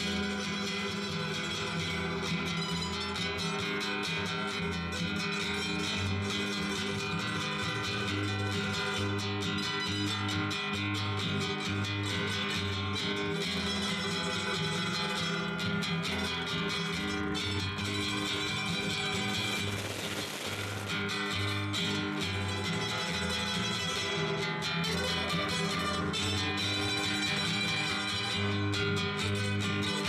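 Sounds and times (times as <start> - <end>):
strummed acoustic guitars: 0.0 - 30.0.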